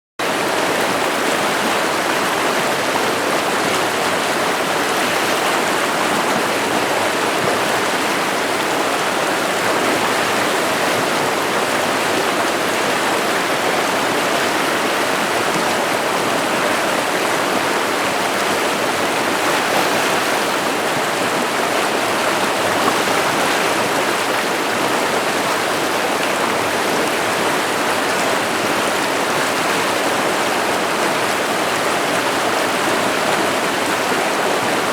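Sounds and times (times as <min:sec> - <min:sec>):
river running over rocks: 0:00.2 - 0:34.9.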